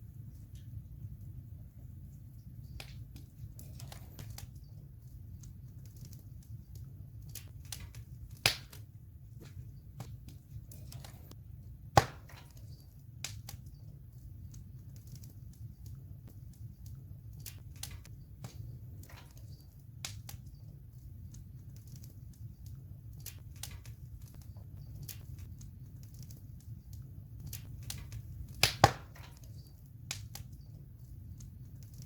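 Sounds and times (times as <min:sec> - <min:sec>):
campfire burning: 0:00.0 - 0:32.0
fire crackling and popping: 0:00.0 - 0:32.0.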